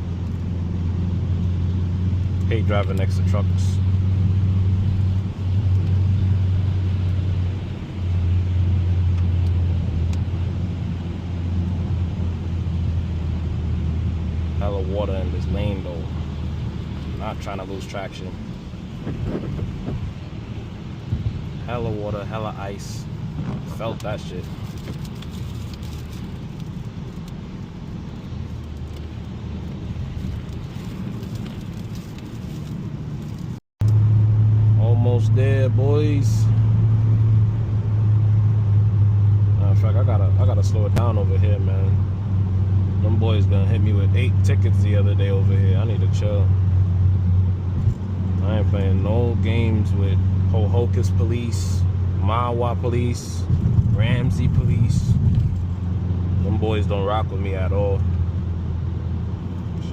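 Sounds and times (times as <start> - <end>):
car engine cruising: 0.0 - 59.9
tyre noise on wet road: 0.0 - 59.9.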